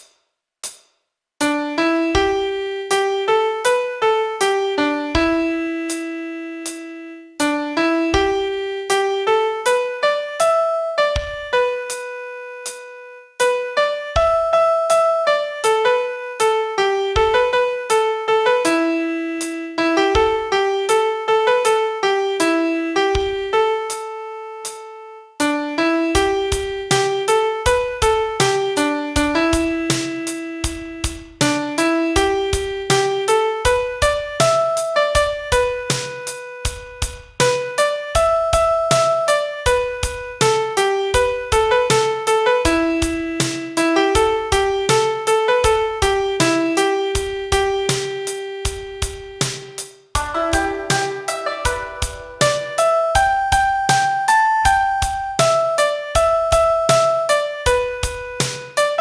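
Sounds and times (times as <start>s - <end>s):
piano melody: 1.4s - 59.0s.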